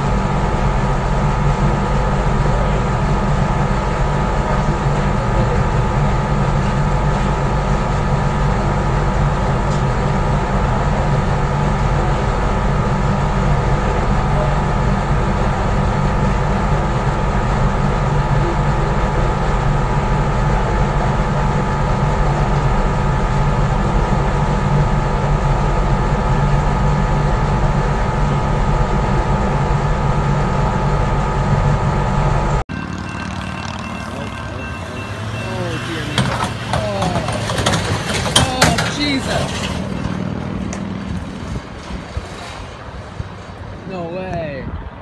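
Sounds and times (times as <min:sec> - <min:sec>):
ship engines rumbling: 0:00.0 - 0:45.0
steady whine: 0:00.0 - 0:45.0.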